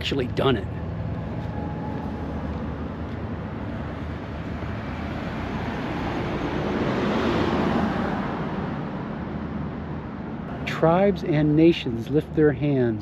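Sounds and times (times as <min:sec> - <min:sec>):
car driving past: 0:00.9 - 0:11.6.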